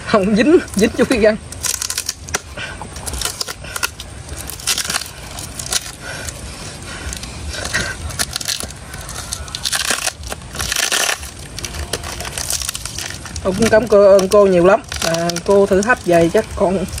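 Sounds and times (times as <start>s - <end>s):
wrapping paper crinkling: 0.2s - 17.0s
paper ripping: 0.6s - 17.0s.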